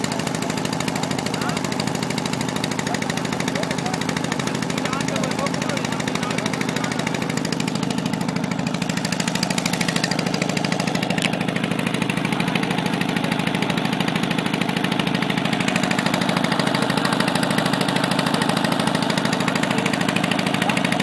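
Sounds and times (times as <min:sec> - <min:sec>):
boat engine thudding: 0:00.0 - 0:21.0.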